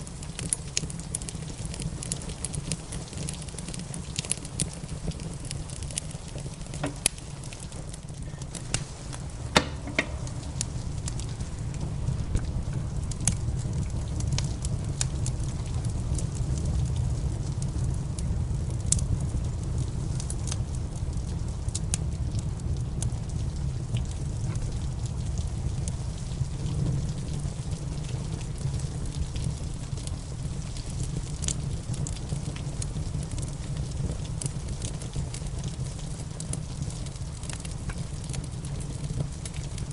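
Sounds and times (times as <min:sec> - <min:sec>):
low fire rumble: 0:00.0 - 0:39.9
steady rain: 0:00.0 - 0:39.9
wood fire crackling: 0:00.0 - 0:39.9.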